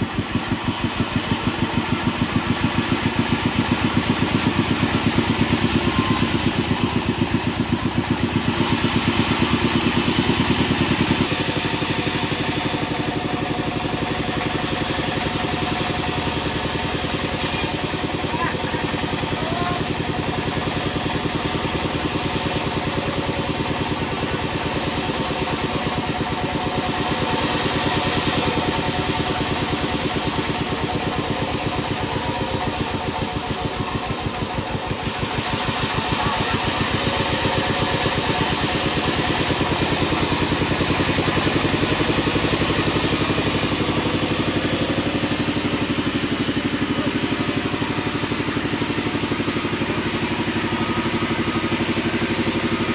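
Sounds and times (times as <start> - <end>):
band sawmill machine running: 0.0 - 52.9.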